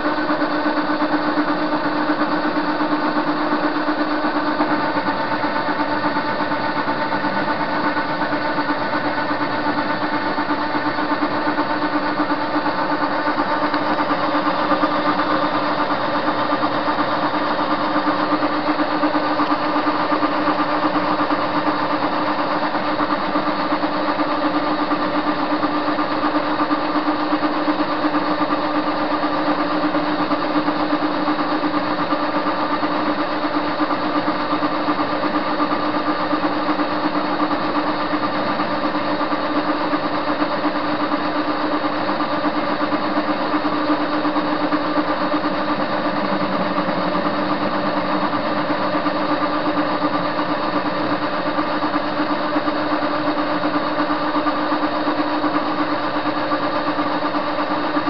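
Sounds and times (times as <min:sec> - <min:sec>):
lathe motor humming: 0:00.0 - 0:58.0.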